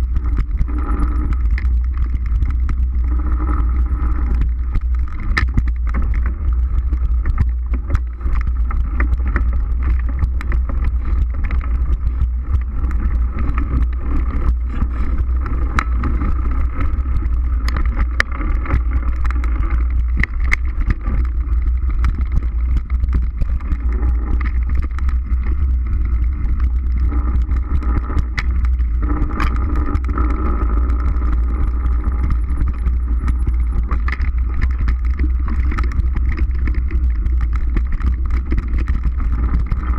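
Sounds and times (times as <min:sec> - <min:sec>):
bike rattling clicks: 0:00.0 - 0:39.9
tyres and wind rumble: 0:00.0 - 0:39.9.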